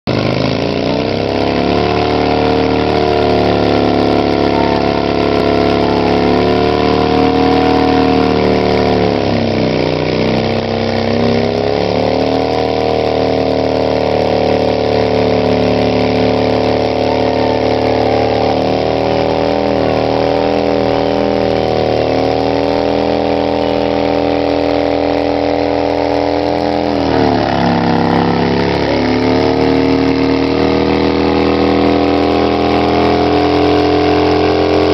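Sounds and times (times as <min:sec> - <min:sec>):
motorcycle engine revving high: 0:00.0 - 0:34.9
rear tyre spinning on ground: 0:00.1 - 0:34.9.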